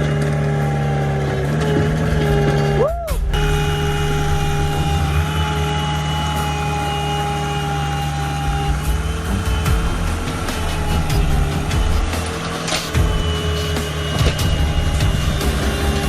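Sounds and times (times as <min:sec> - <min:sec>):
diesel engine running: 0:00.0 - 0:16.0
steady whine: 0:00.6 - 0:16.0.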